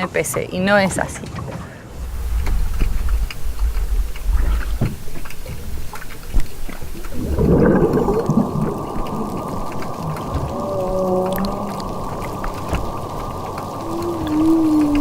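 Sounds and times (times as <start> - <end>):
crackling sea recording: 0.0 - 15.0
low underwater rumble: 2.0 - 15.0
whale calls: 2.0 - 15.0.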